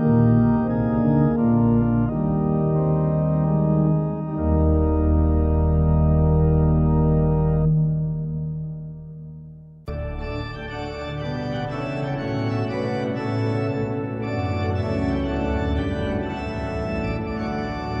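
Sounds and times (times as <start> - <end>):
deep bass organ note: 0.0 - 18.0
organ chords: 0.0 - 18.0.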